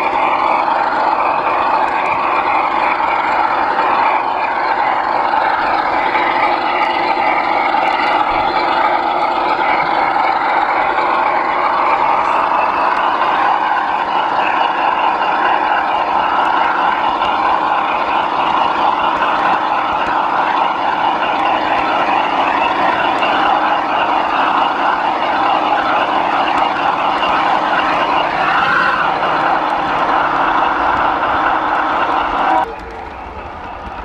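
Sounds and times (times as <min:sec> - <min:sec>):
model locomotive drone: 0:00.0 - 0:34.0.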